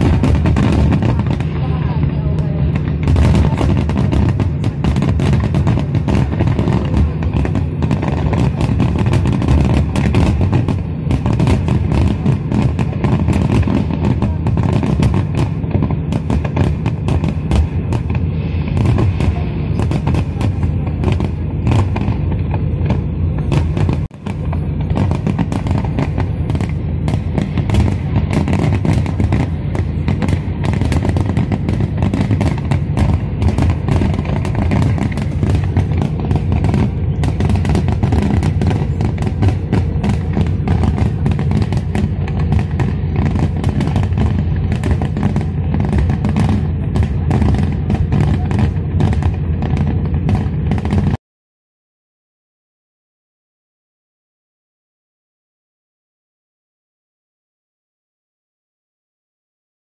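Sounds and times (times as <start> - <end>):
fireworks cracking and bursting: 0.0 - 51.2.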